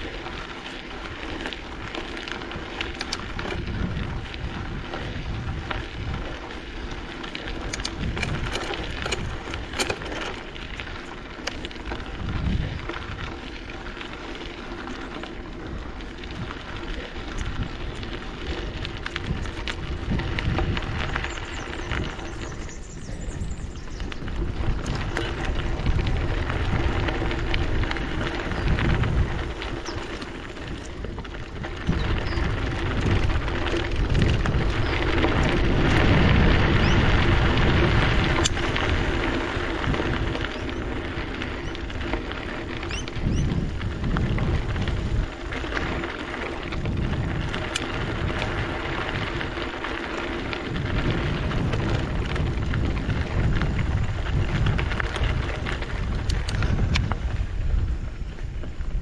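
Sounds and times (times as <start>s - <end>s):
bike tyres crunching on dirt: 0.0s - 59.0s
wind buffeting microphone: 0.0s - 59.0s.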